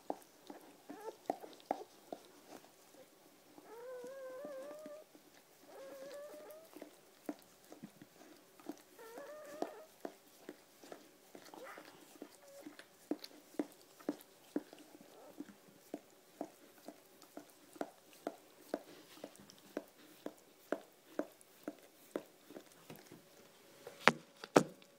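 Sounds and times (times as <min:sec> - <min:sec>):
dog licking puppy: 0:00.0 - 0:24.0.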